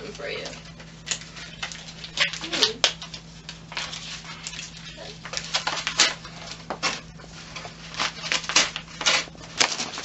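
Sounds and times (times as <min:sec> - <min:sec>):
paper crinkling and tearing: 0:00.0 - 0:10.0.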